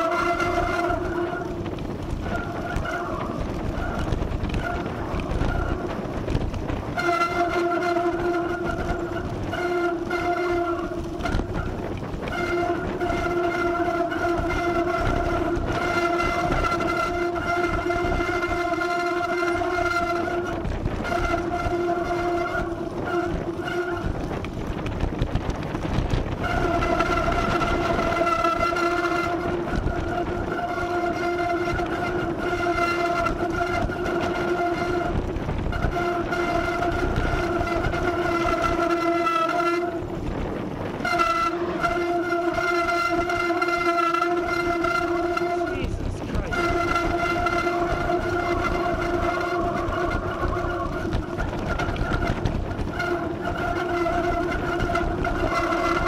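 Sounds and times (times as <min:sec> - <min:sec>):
wind rumbling over microphone: 0:00.0 - 0:56.0.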